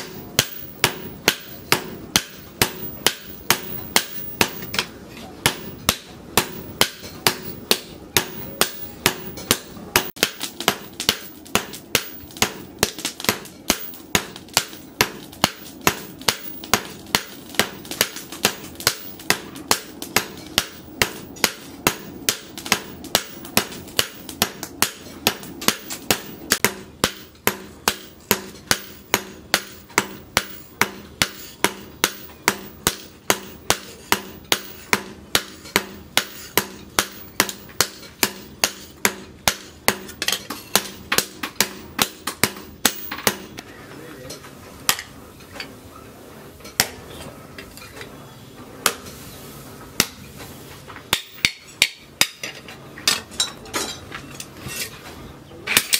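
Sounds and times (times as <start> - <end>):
hammer striking metal on anvil: 0.0 - 43.6, 51.1 - 54.9.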